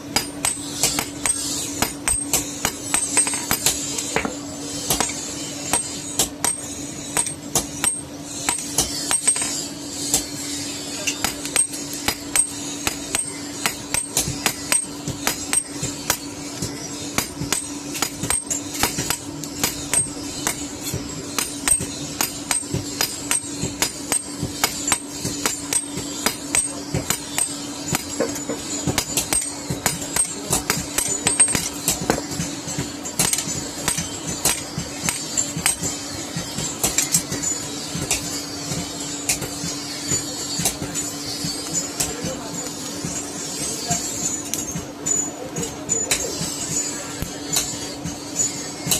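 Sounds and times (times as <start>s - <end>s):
hammer striking iron on anvil: 0.0s - 48.9s.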